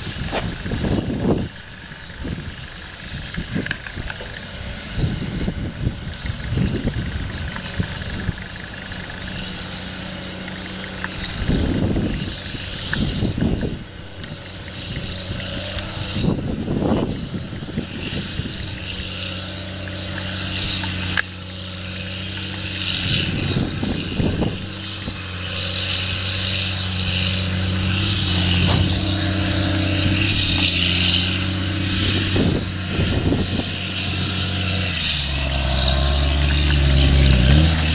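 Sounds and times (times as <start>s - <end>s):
engine running: 0.0s - 37.9s.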